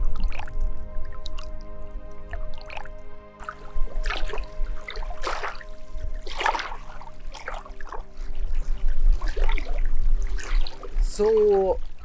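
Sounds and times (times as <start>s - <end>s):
soft background music: 0.0s - 12.0s
water splashing and trickling: 0.0s - 12.0s.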